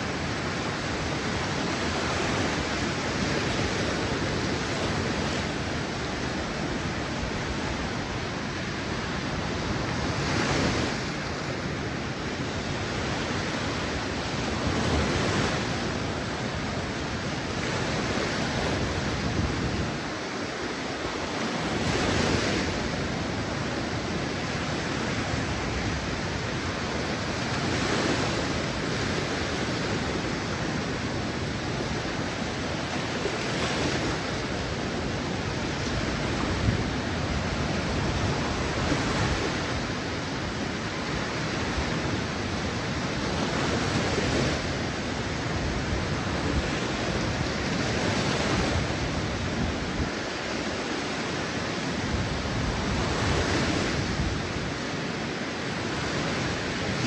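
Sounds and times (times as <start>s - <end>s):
waves washing on sandy beach: 0.0s - 57.0s.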